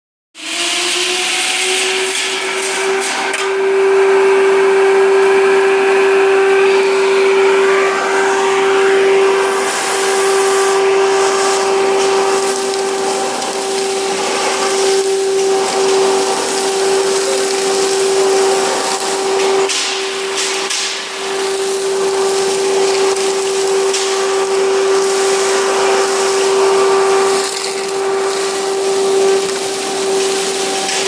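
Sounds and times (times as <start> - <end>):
motor whine: 0.4 - 31.0.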